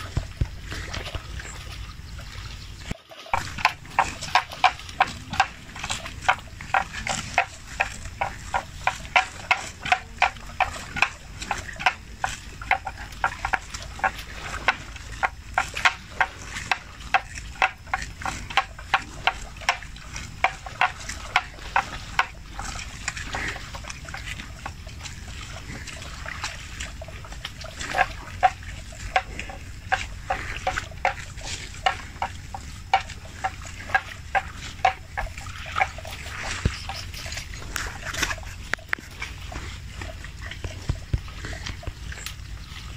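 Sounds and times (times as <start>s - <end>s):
buffalo chewing grass: 0.0s - 42.9s.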